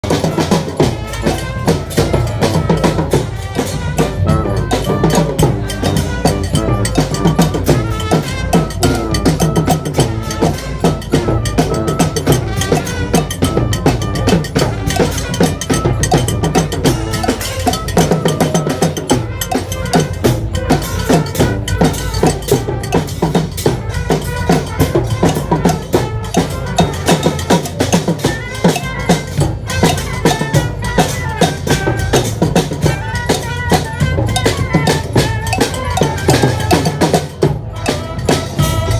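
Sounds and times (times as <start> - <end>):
drums beating fast rhythm: 0.0 - 38.9
held horn notes: 0.0 - 38.9
street band playing: 0.0 - 38.9.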